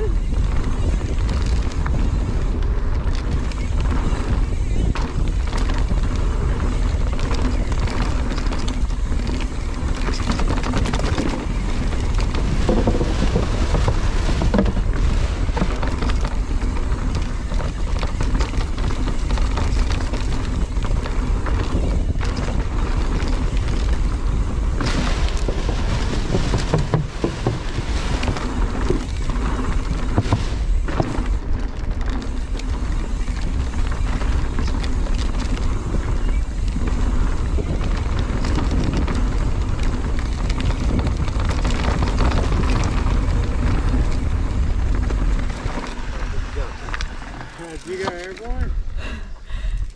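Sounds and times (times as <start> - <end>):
bike rattling over bumps: 0.0 - 49.9
tyres rolling over dirt: 0.0 - 49.9
wind buffeting microphone: 0.0 - 49.9.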